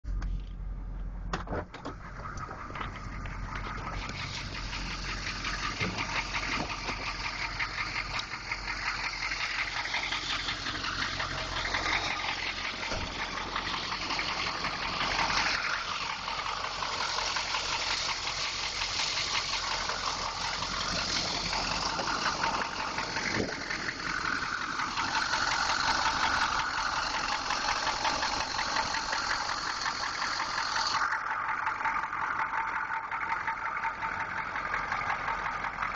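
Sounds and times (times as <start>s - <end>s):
engine running with fast knock: 1.3s - 35.9s.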